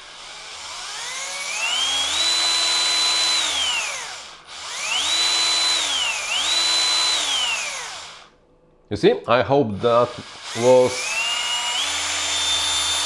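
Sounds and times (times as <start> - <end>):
screwdriver motor whine: 0.0 - 8.3, 9.8 - 13.0.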